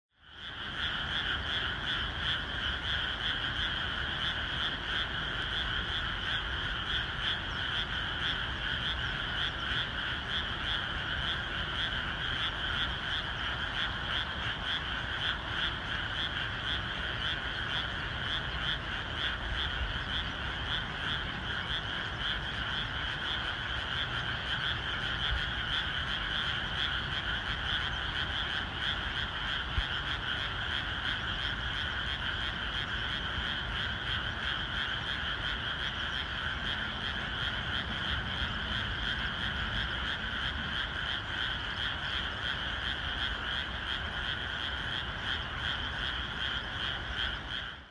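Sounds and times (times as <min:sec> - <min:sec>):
frogs chorus calling: 0:00.2 - 0:47.9.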